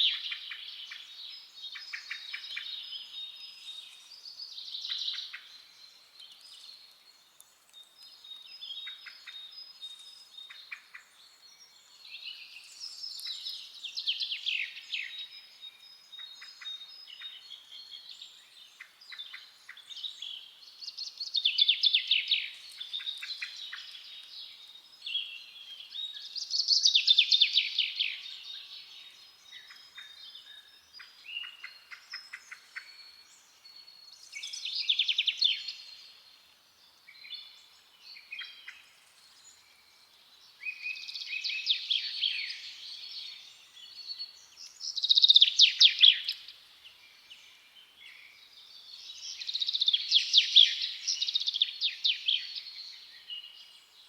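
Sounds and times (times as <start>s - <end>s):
songbirds singing and trilling: 0.0s - 54.0s.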